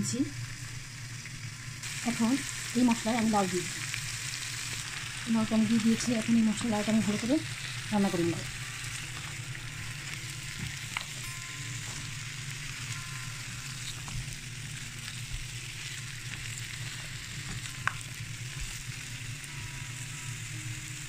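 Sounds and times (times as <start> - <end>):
low hum: 0.0 - 21.0
vegetables sizzling in hot oil: 0.0 - 21.0.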